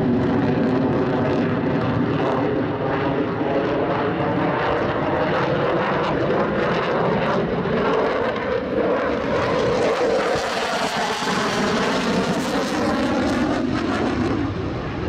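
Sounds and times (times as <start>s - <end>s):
fighter jet roar: 0.0s - 15.0s.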